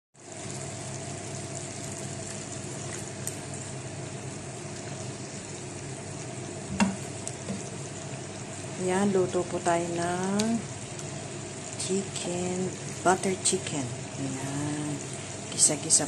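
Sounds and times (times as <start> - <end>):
chicken sizzling in oil: 0.2 - 16.0.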